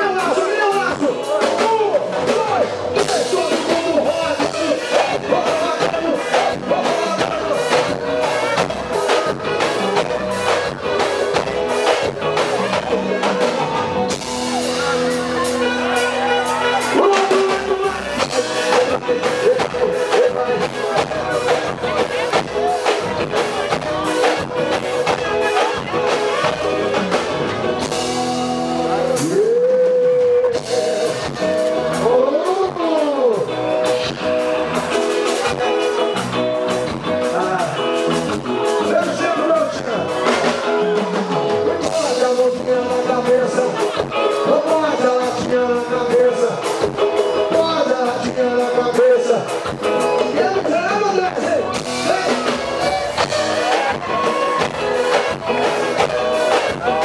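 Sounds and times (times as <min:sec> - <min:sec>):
band music with lead singer: 0:00.0 - 0:57.0.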